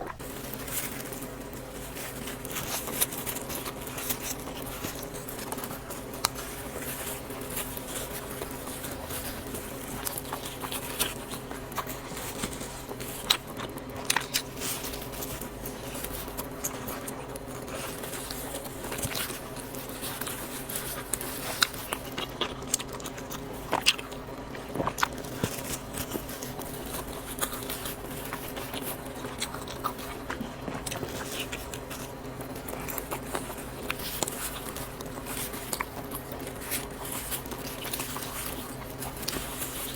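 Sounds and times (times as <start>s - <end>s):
chewing and mouth sounds: 0.0s - 39.9s.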